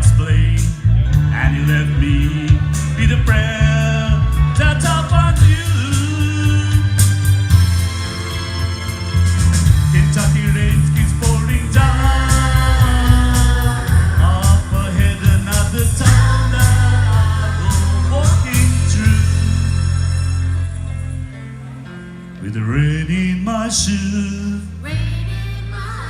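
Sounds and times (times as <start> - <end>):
gliding melodic lead line: 0.0 - 25.6
band playing country ballad: 0.0 - 26.0.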